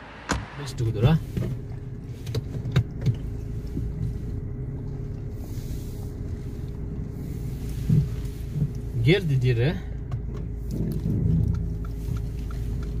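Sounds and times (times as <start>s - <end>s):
car engine low hum: 0.0s - 13.0s.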